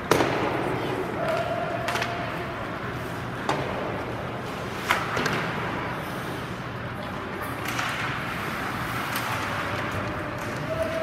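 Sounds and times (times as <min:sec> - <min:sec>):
arena noise: 0:00.0 - 0:11.0.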